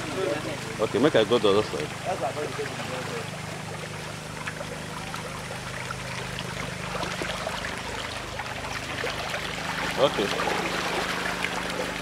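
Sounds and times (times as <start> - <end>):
muddy water sloshing: 0.0 - 12.0
small splashes: 0.0 - 12.0
steady low hum: 0.0 - 12.0.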